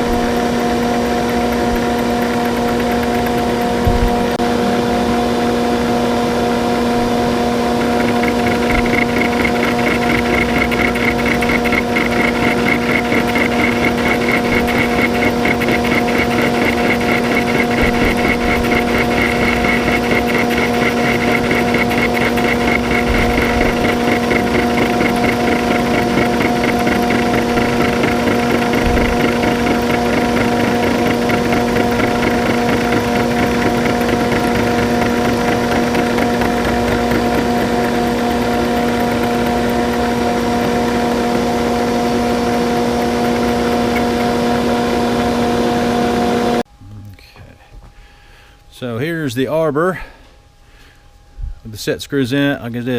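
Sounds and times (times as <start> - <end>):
machine tool motor hum: 0.0 - 46.6
rapid cutter pulsing: 0.0 - 46.6.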